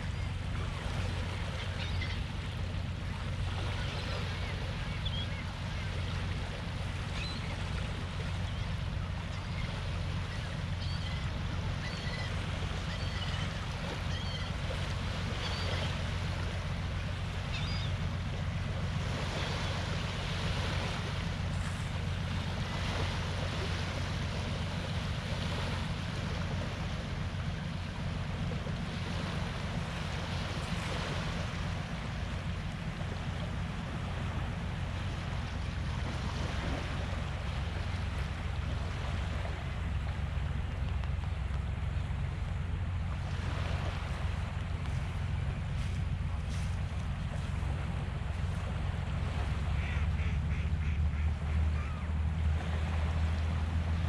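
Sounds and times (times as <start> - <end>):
small waves lapping on sand: 0.0 - 54.0.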